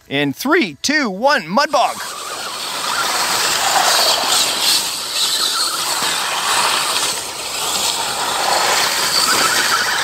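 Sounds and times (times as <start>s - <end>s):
rc truck motors whining: 1.6s - 10.0s.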